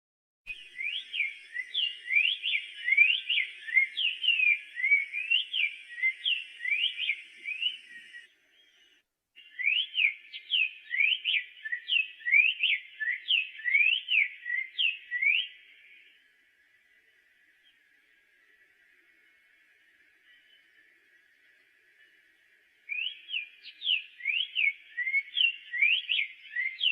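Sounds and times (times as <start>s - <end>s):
bird singing whistled notes: 0.5s - 26.9s.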